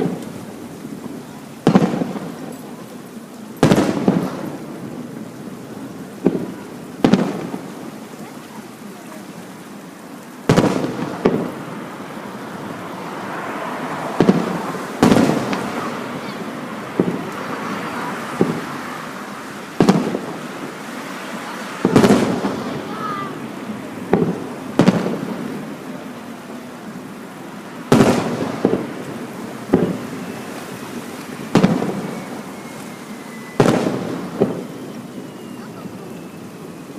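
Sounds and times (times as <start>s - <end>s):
fireworks booming: 0.0s - 36.9s.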